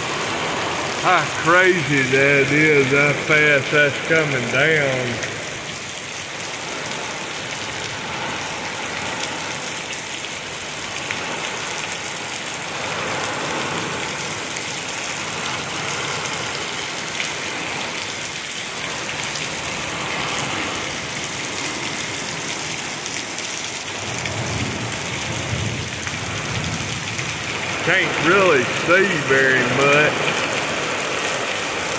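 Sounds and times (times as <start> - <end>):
torrential rain pouring: 0.0 - 31.9.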